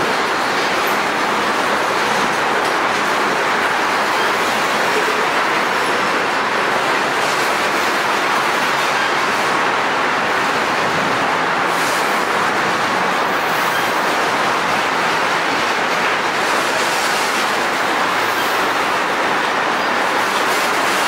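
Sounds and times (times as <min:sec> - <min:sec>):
train wheels on rail: 0:00.0 - 0:21.0.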